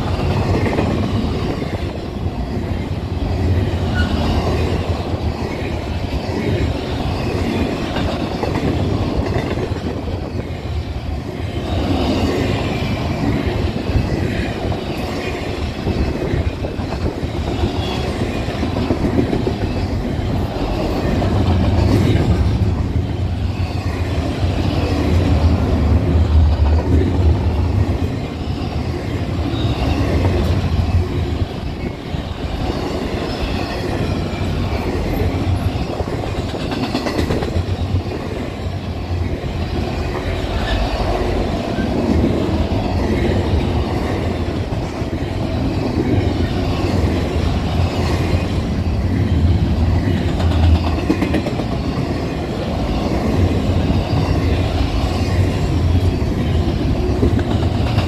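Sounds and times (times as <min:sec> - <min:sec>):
train cars clattering: 0:00.0 - 0:58.0
train wheels rumbling on rail: 0:00.0 - 0:58.0.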